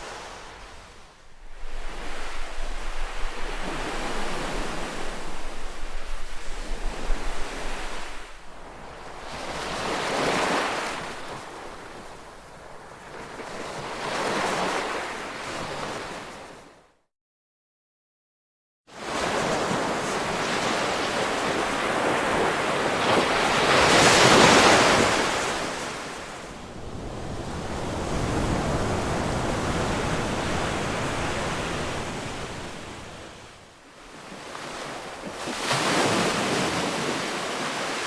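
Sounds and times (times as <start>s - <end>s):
ocean waves washing ashore: 0.0s - 16.8s, 18.9s - 38.0s.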